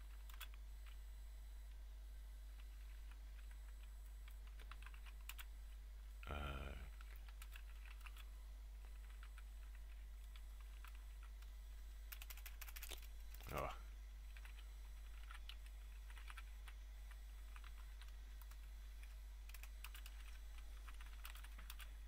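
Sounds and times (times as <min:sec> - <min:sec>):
keyboard typing: 0:00.0 - 0:01.0, 0:02.6 - 0:05.5, 0:06.9 - 0:13.7, 0:14.3 - 0:22.0.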